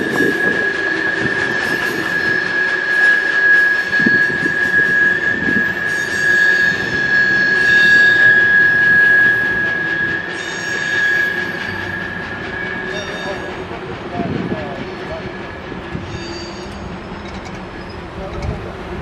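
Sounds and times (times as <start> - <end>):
high-pitched wheel squeal: 0.0 - 18.5
train wheels rolling: 0.0 - 19.0.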